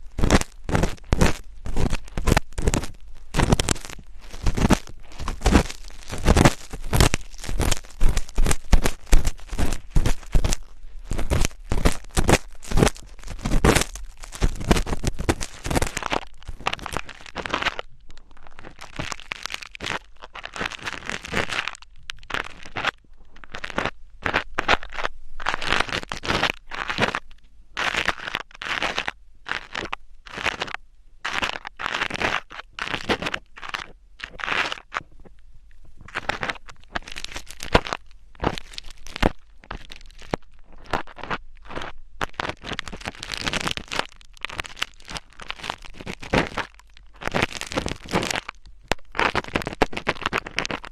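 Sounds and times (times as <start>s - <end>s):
close-miked scratching: 0.0s - 50.9s.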